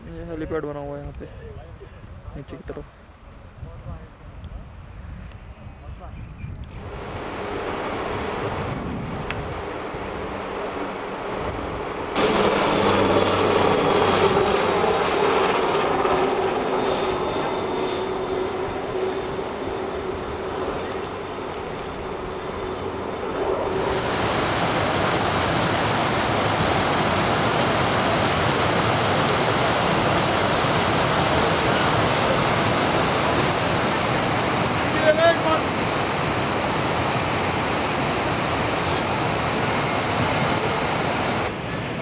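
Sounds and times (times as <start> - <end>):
helicopter flying past: 6.8 - 42.0
steady rushing noise: 6.8 - 42.0.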